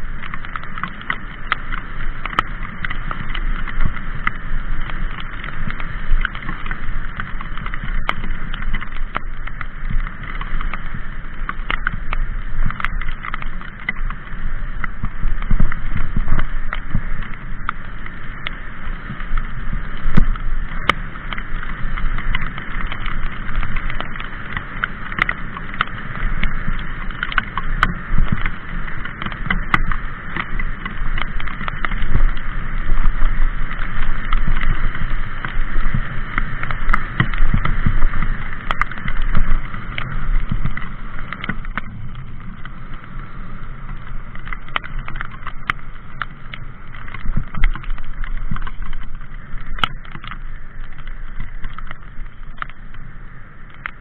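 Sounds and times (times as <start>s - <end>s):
bike knocks and rattles: 0.0s - 53.0s.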